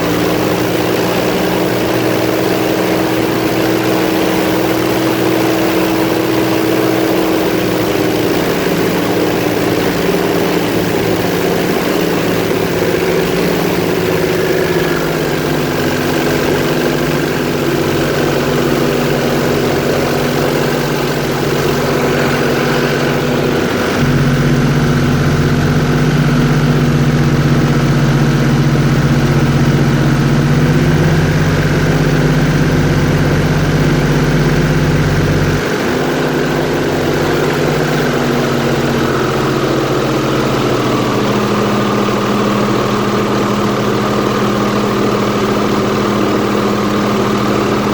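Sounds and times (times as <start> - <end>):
airboat engine and propeller: 0.0 - 47.9.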